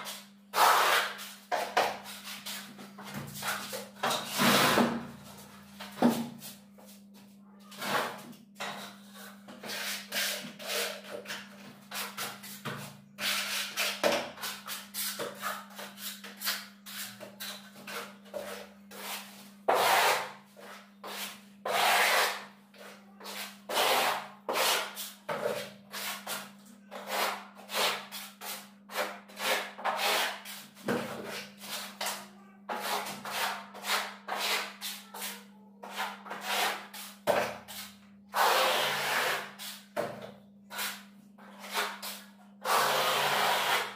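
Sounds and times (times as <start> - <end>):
trowel scraping plaster on wall: 0.0 - 5.1, 7.7 - 40.0, 40.7 - 43.9.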